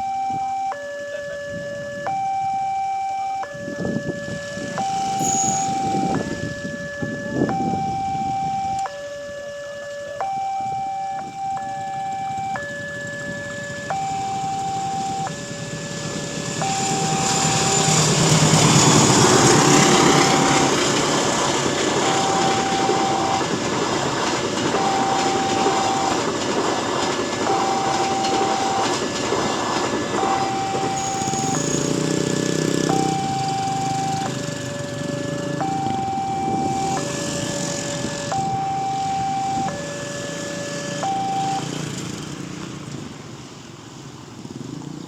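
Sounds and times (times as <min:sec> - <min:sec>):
level crossing two-tone alarm: 0:00.0 - 0:42.4
train passing: 0:03.6 - 0:08.8, 0:10.7 - 0:44.8.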